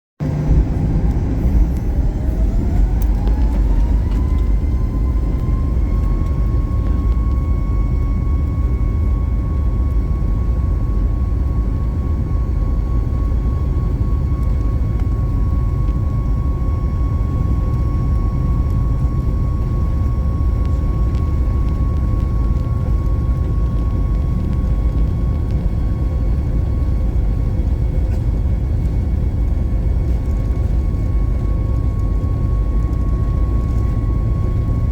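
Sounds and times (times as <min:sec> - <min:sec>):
jet engine whine: 0:00.2 - 0:34.9
low rumble of takeoff roll: 0:00.2 - 0:34.9.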